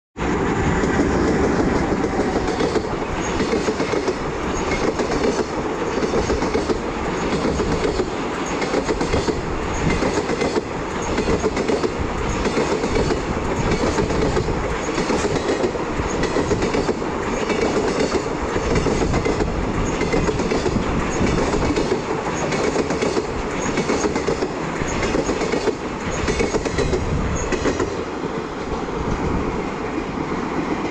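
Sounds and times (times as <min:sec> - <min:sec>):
electric locomotive passing: 0:00.2 - 0:30.9
train wheels clattering over joints: 0:00.9 - 0:29.2.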